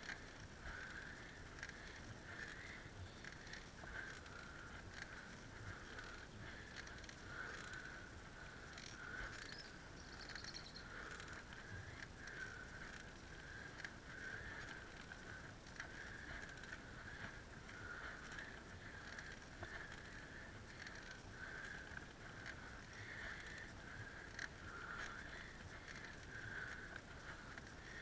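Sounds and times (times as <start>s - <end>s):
bicycle whirr: 0.0s - 28.0s
light clicks and rattles: 0.0s - 28.0s.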